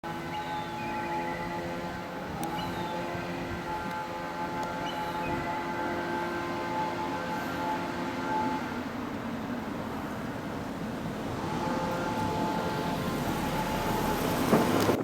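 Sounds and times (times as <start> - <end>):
faint engine whine: 0.0 - 15.0
ferry engine rumbling: 0.0 - 15.0.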